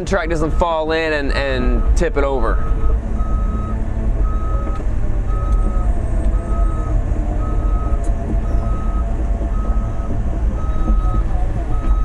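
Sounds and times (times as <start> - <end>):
excavator diesel engine rumble: 0.0 - 12.0
travel alarm beeps: 1.6 - 12.0.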